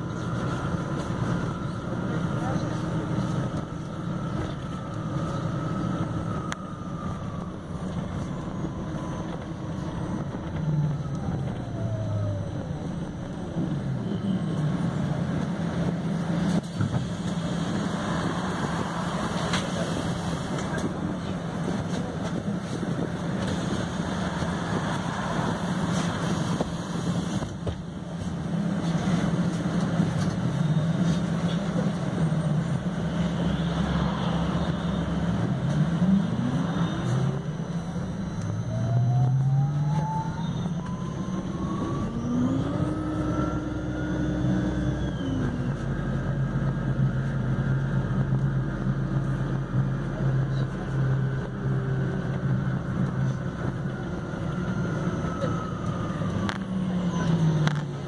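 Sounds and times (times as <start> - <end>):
bus drive hum: 0.0 - 58.0
road noise: 0.0 - 58.0.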